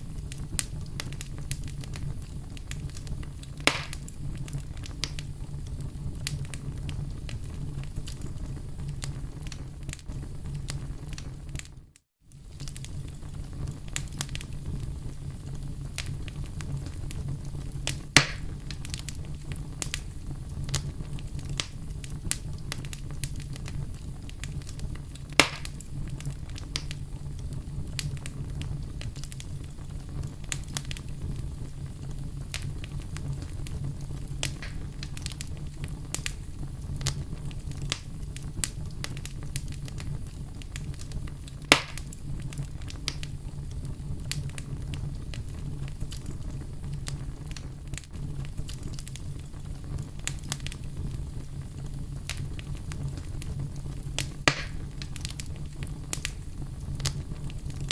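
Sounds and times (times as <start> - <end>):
sharp fire pops: 0.0 - 11.7, 12.3 - 57.9
wood fire crackling: 0.0 - 57.9.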